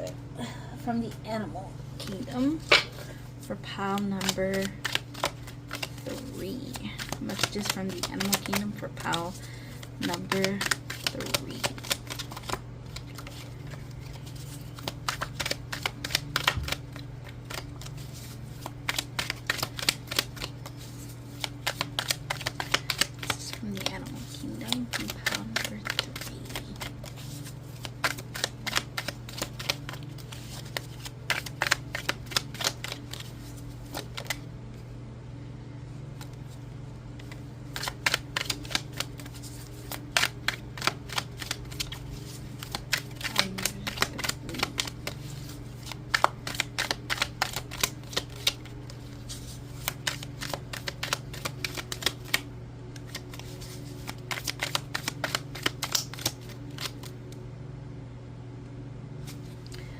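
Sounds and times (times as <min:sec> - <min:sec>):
steady low hum: 0:00.0 - 0:59.9
cards being shuffled: 0:02.0 - 0:34.5, 0:36.2 - 0:57.4.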